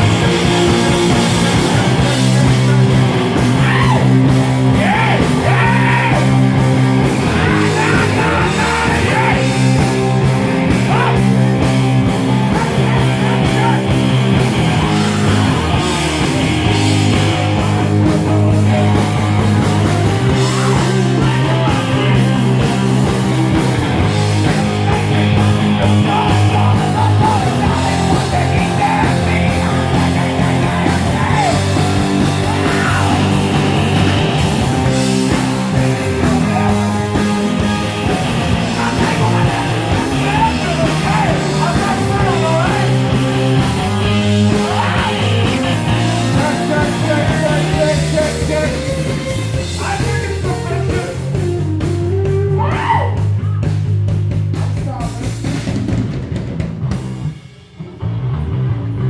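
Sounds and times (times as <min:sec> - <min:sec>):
voices singing or yelling: 0:00.0 - 0:56.0
live rock band playing: 0:00.0 - 0:59.0.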